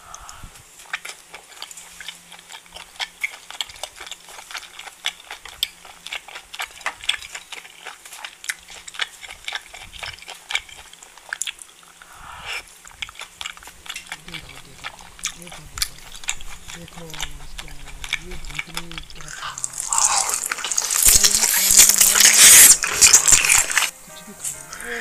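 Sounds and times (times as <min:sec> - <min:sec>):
wet chewing and lip smacks: 0:00.0 - 0:23.9.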